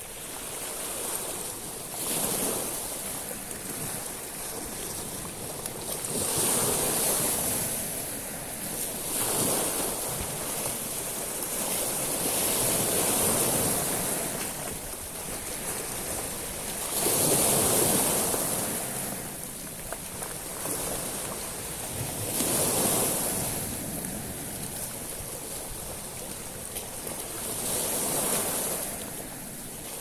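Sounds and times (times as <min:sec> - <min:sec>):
waves washing over shingle beach: 0:00.0 - 0:30.0.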